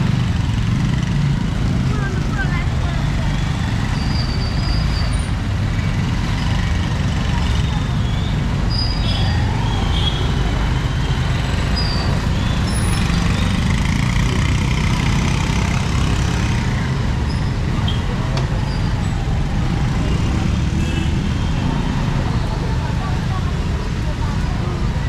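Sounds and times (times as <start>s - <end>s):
traffic engines rumbling: 0.0s - 25.0s.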